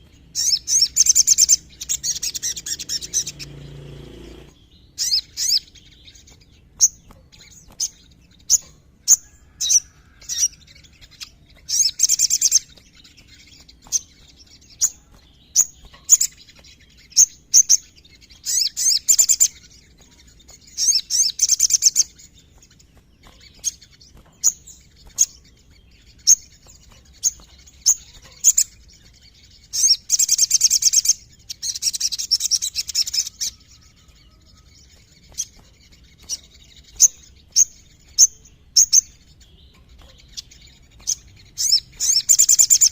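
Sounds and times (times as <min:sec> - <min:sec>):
sunbird singing high chips and trills: 0:00.0 - 0:42.9.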